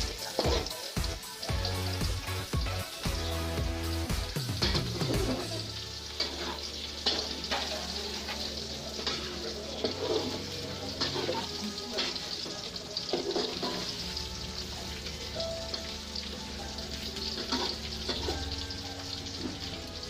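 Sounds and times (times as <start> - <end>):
food sizzling in hot oil: 0.0 - 20.0
stirring in a pan: 0.0 - 20.0.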